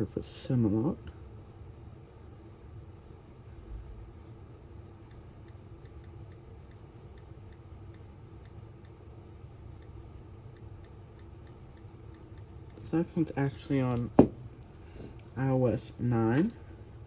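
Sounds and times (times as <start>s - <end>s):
low steady background hum: 0.0s - 17.0s.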